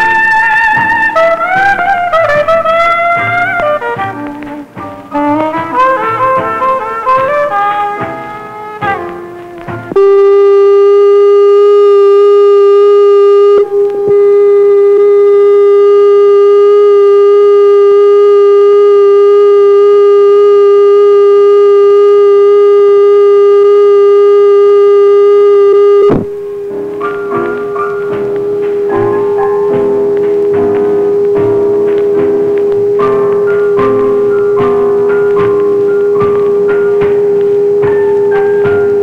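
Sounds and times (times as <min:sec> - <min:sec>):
loud steady tone: 0:00.0 - 0:39.0.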